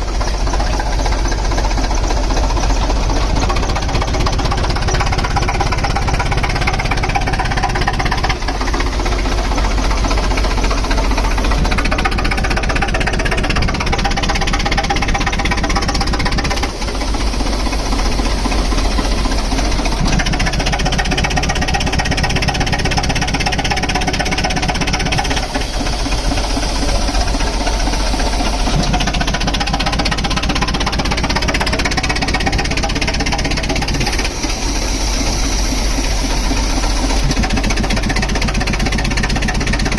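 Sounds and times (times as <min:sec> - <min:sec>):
heavy machinery engine running: 0:00.0 - 0:39.9
rapid knocking clatter: 0:00.0 - 0:39.9.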